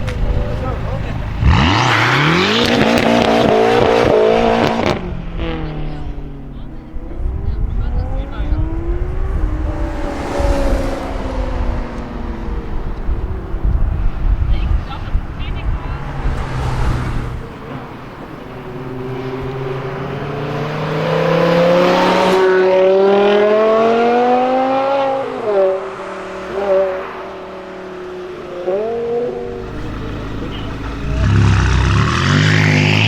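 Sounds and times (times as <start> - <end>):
higher-revving engine: 0.0 - 14.5, 15.3 - 33.0
car engine accelerating hard: 0.0 - 33.0.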